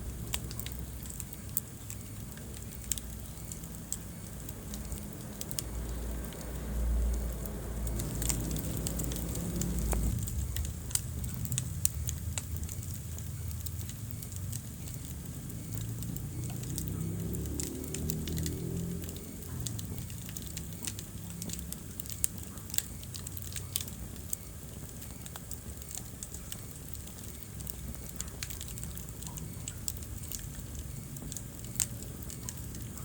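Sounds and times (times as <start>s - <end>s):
low rumble of flames: 0.0s - 33.0s
wood fire crackling: 0.0s - 33.0s
sharp pops of burning wood: 0.1s - 33.0s.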